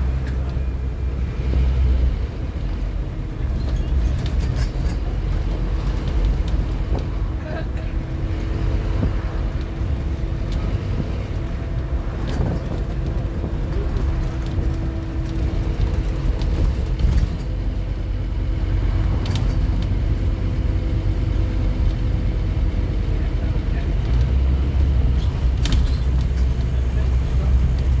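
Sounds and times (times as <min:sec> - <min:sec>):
bus engine and road drone: 0:00.0 - 0:28.0
light rattles: 0:02.6 - 0:22.1, 0:23.7 - 0:28.0.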